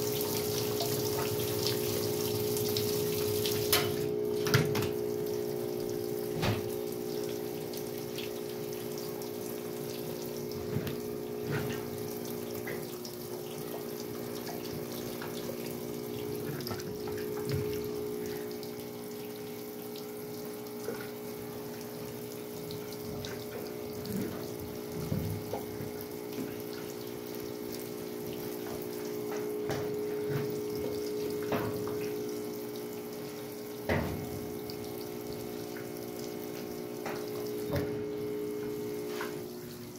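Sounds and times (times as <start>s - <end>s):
washing machine hum: 0.0s - 39.9s
water splashing in tub: 0.0s - 39.9s.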